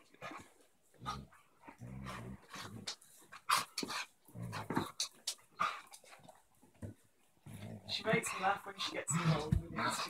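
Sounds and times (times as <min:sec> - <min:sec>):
dogs growling: 0:00.0 - 0:10.0.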